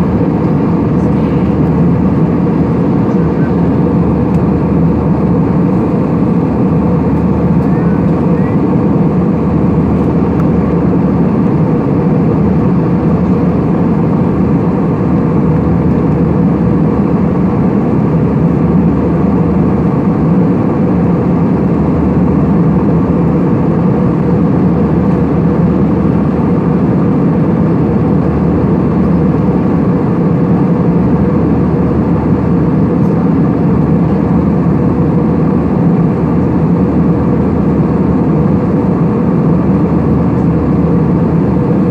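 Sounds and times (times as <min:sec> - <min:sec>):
airplane cabin engine drone: 0:00.0 - 0:41.9.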